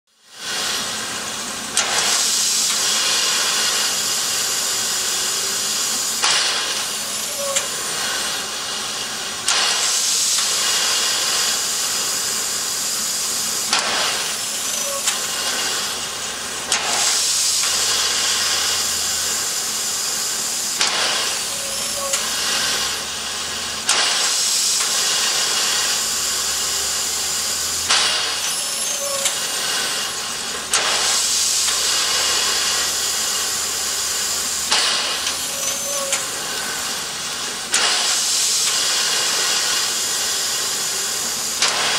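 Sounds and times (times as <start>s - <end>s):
steam hissing from locomotive: 0.1s - 41.9s.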